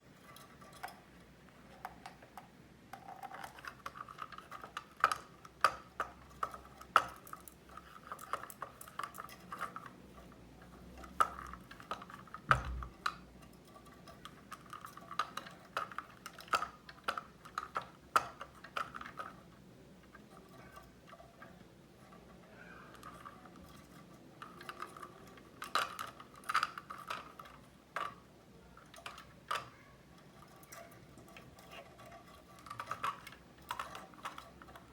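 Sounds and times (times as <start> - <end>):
quiet scratching: 0.0 - 34.9.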